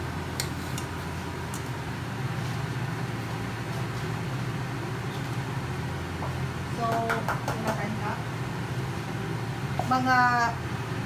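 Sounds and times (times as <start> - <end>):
induction hob fan humming: 0.0 - 11.0.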